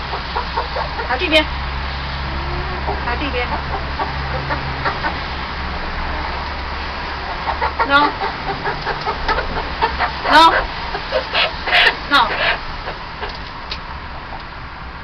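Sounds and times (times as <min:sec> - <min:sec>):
hens clucking: 0:00.0 - 0:14.6.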